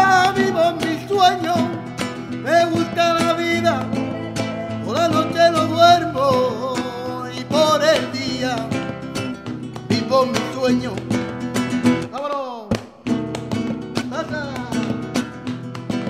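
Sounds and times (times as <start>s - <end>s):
man singing: 0.0s - 11.4s, 12.1s - 13.1s, 13.9s - 15.5s
strummed acoustic guitar: 0.0s - 16.0s.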